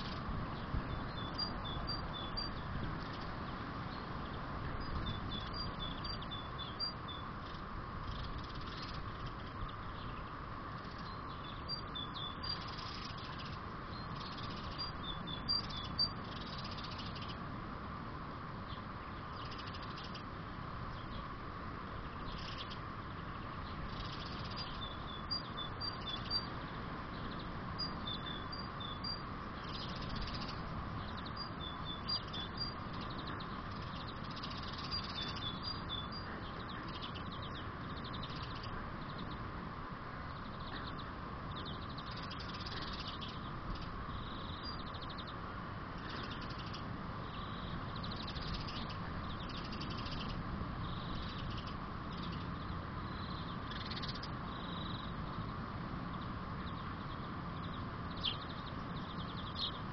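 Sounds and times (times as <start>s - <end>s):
small birds chirping: 0.0s - 17.5s, 18.6s - 59.9s.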